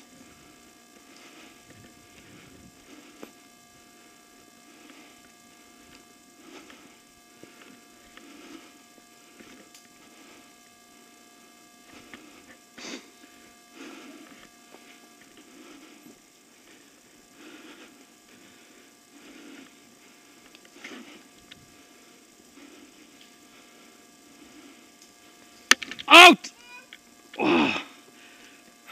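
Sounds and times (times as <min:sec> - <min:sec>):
faint electrical hum: 0:00.0 - 0:28.9.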